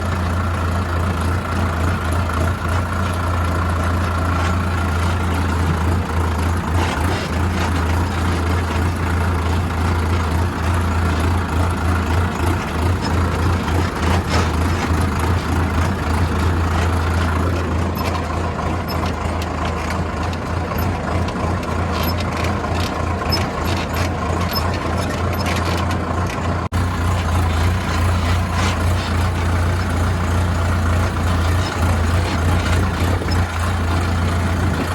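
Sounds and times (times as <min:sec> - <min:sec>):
tractor diesel engine humming: 0:00.0 - 0:34.9.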